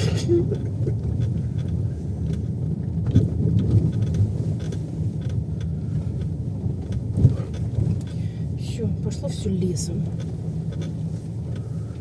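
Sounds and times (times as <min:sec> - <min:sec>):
car rumble from inside cabin: 0:00.0 - 0:12.0.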